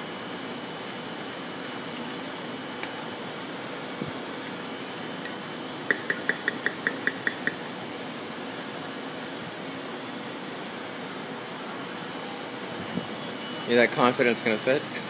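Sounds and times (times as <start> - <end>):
mechanical room hum: 0.0 - 15.0.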